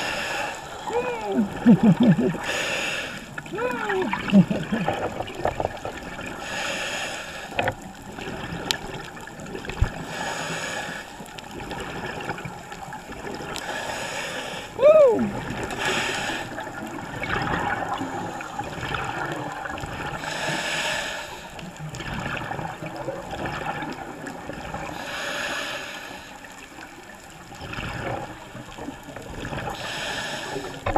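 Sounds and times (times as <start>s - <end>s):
scuba breathing bubbles: 0.0s - 30.9s.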